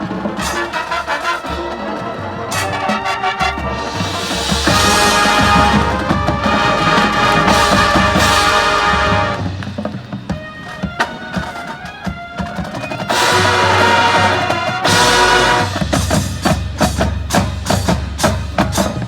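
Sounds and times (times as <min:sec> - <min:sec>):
marching band playing: 0:00.0 - 0:19.0
struck percussion notes: 0:00.0 - 0:19.0.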